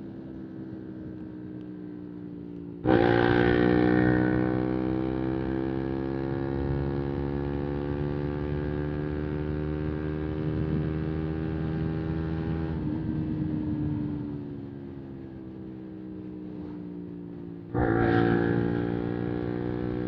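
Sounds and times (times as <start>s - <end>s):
motorcycle engine running: 0.0s - 15.2s, 15.9s - 20.0s.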